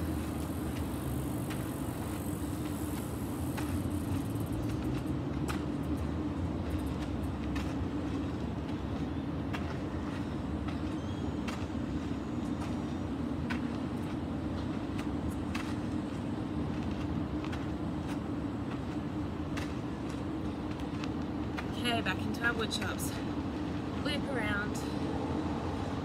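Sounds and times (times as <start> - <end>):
low outdoor background rumble: 0.0 - 26.0.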